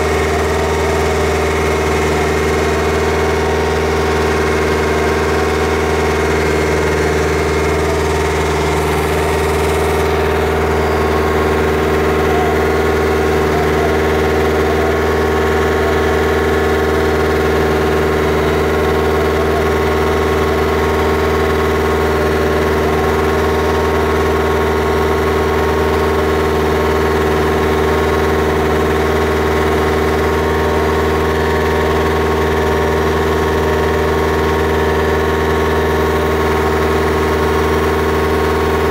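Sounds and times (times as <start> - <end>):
drilling rig engine humming: 0.0 - 38.9.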